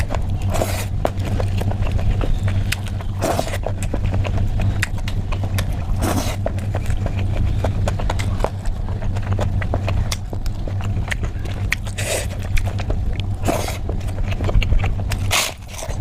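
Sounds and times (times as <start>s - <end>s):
chewing and mouth smacking: 0.0s - 16.0s
steady low hum: 0.0s - 16.0s.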